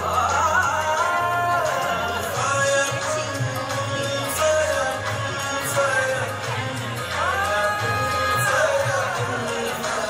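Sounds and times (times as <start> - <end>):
person singing: 0.0 - 10.0.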